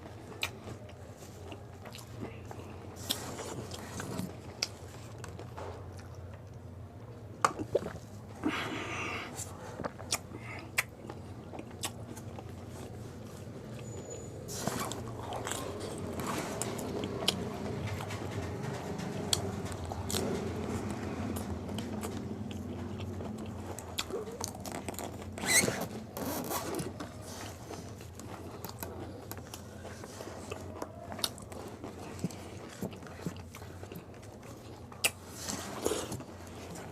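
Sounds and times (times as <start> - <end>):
crunching and chewing crisp food: 0.0 - 36.9.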